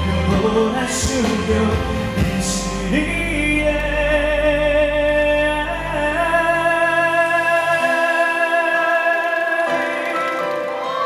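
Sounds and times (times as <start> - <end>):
live pop song over sound system: 0.0 - 11.0.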